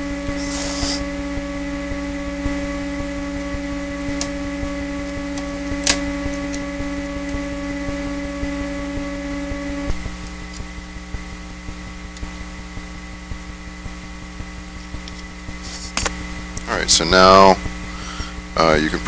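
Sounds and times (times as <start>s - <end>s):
electronic whine: 0.0s - 19.0s
low ticking buzz: 0.0s - 19.0s.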